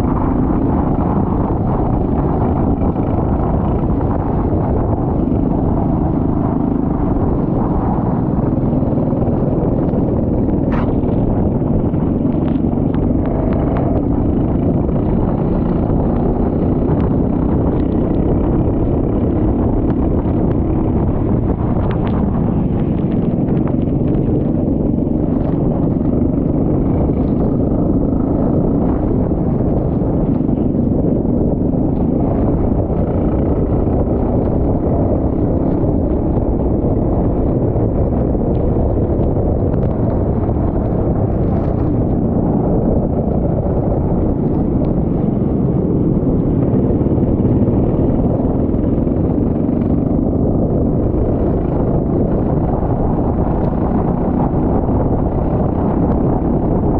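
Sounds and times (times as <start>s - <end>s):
go-kart engine running: 0.0s - 56.9s
wind rumble on microphone: 0.0s - 56.9s.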